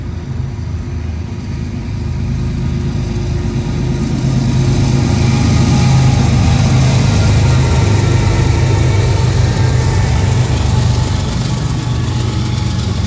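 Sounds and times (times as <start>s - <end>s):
locomotive diesel engine drone: 0.0s - 13.0s.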